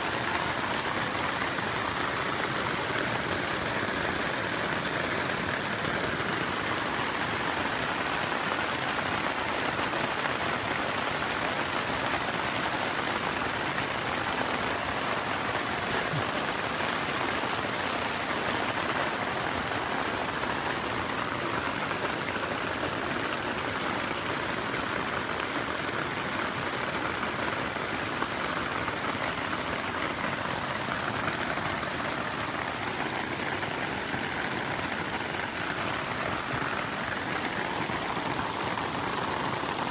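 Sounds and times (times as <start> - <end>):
rain drumming on tent fabric: 0.0 - 39.9.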